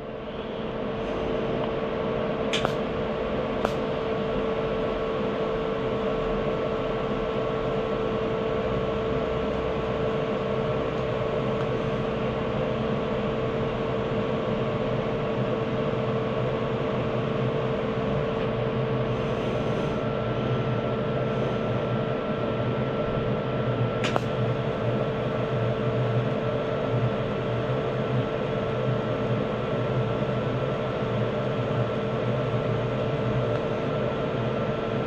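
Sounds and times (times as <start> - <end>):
welder electric hum and hiss: 0.0 - 35.0.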